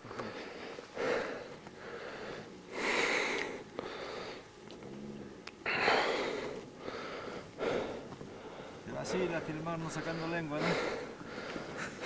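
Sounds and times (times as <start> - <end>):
heavy labored breathing: 0.0 - 12.0.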